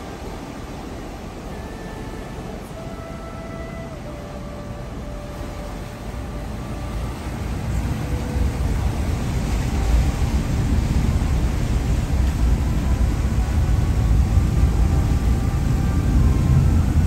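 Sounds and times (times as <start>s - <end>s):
ferry propellers churning water: 0.0s - 17.0s.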